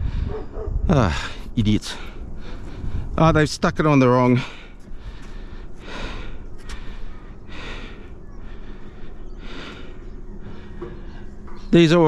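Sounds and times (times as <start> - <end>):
man breathing heavily and sighing: 0.0 - 3.2, 4.3 - 11.7.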